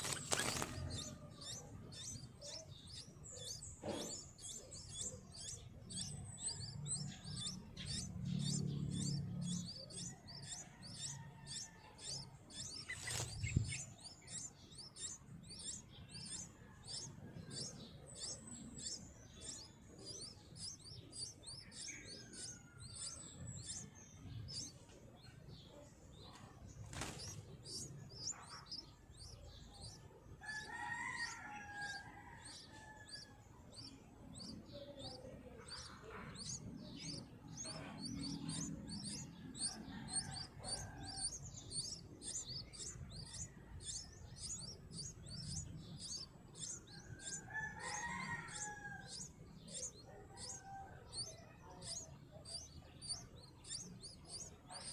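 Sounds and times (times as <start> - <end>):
bulbuls chirping: 0.0 - 54.9.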